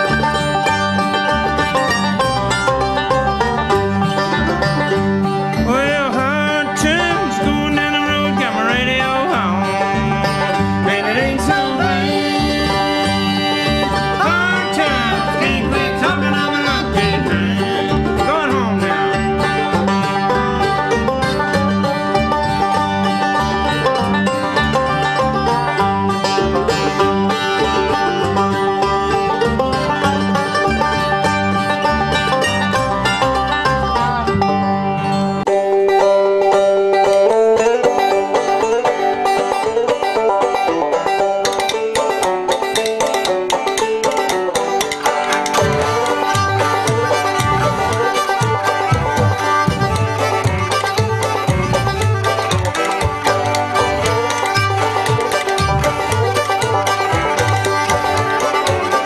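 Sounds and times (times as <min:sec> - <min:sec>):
instrumental country music: 0:00.0 - 0:59.0.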